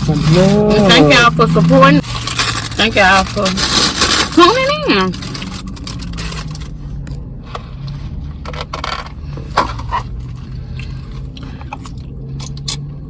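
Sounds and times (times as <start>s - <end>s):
food packaging scraping and handling: 0.0s - 11.8s
steady low hum: 0.0s - 13.0s.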